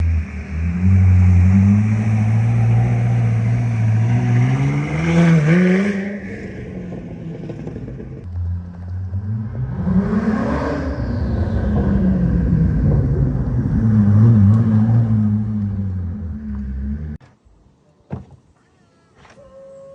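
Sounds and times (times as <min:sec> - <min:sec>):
car engine accelerating: 0:00.0 - 0:17.2.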